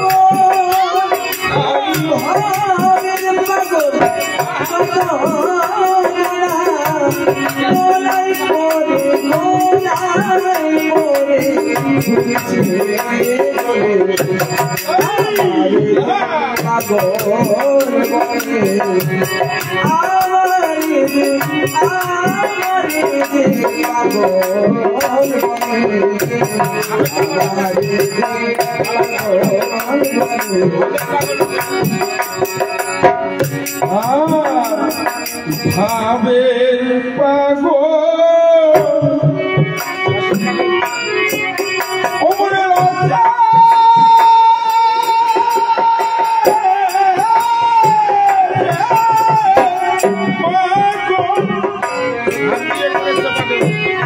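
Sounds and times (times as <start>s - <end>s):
steady percussion beat: 0.0s - 36.4s, 38.7s - 54.0s
harmonium chords: 0.0s - 54.0s
man singing into microphone: 0.0s - 54.0s.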